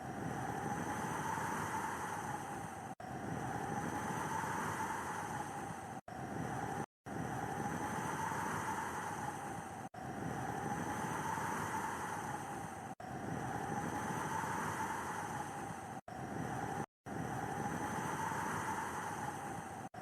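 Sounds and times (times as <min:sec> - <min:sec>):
snowstorm wind rushing: 0:00.2 - 0:19.9.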